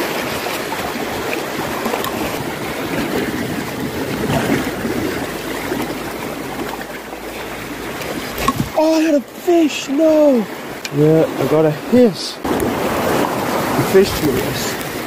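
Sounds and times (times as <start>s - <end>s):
sea waves washing over rocks: 0.0s - 15.0s.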